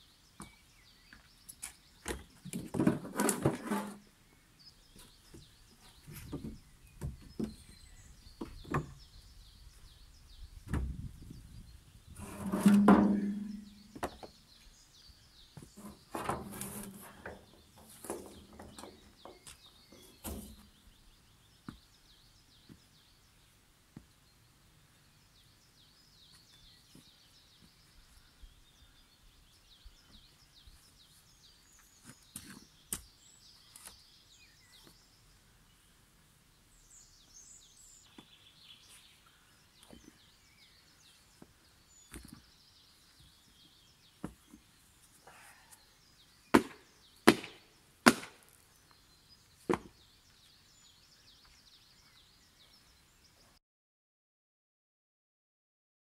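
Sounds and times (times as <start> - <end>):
faint birds chirping: 0.0 - 53.6.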